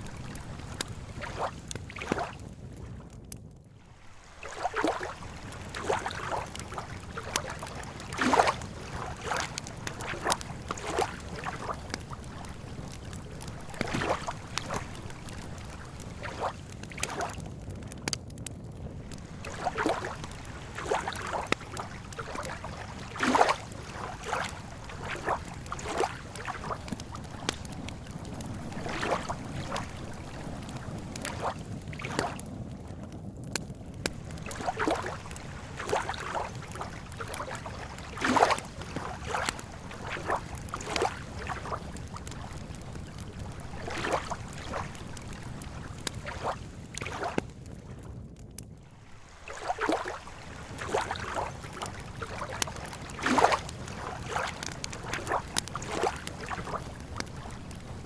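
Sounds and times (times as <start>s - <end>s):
small waves lapping on shore: 0.0s - 3.0s, 3.8s - 17.9s, 18.9s - 32.5s, 34.0s - 47.7s, 48.8s - 58.0s
campfire crackling: 0.0s - 58.0s.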